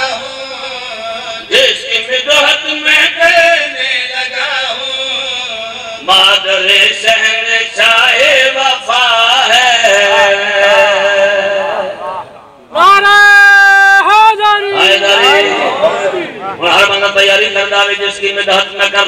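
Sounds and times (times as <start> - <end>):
man chanting over loudspeaker: 0.0 - 19.0.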